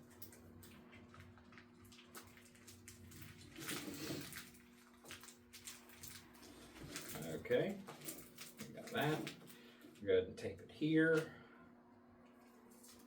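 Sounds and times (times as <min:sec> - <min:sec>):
rustling and clicks of wiring: 0:00.0 - 0:10.0, 0:12.2 - 0:13.0
low electrical hum: 0:00.0 - 0:13.0.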